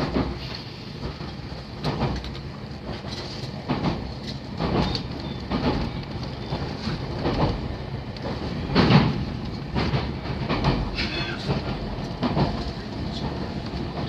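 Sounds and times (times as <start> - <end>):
train rumble from inside: 0.0 - 14.0
wheels clacking over rail joints: 0.0 - 14.0.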